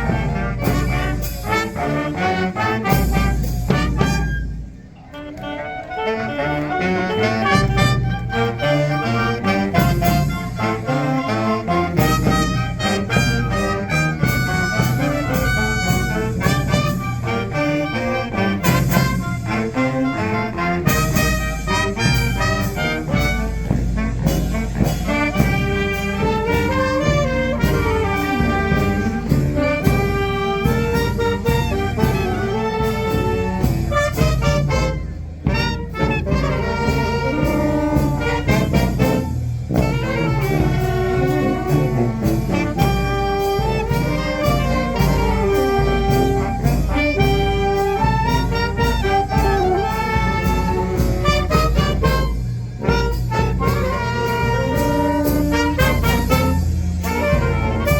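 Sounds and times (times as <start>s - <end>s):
steady drum beat: 0.0s - 4.2s, 7.4s - 57.9s
brass melody: 0.0s - 57.9s.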